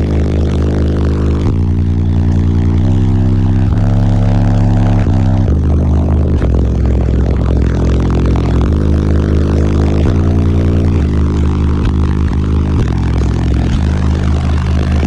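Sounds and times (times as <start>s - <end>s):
deep bass notes from subwoofers: 0.0s - 15.0s.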